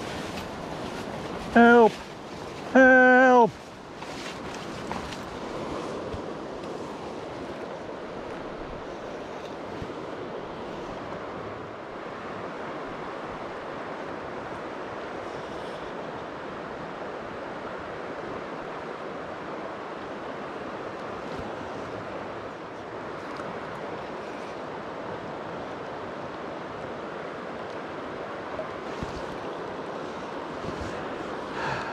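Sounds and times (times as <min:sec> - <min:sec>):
fast-flowing stream rushing: 0:00.0 - 0:31.9.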